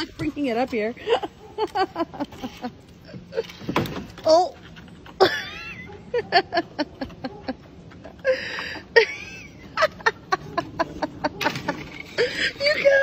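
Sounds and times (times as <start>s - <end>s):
person laughing: 1.0s - 3.7s, 5.2s - 13.0s.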